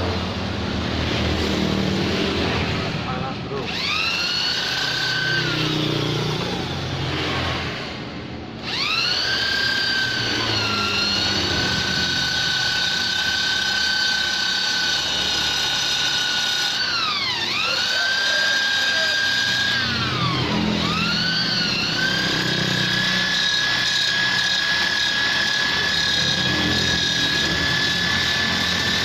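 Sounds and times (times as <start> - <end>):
rotary grinder whining: 0.0 - 29.0.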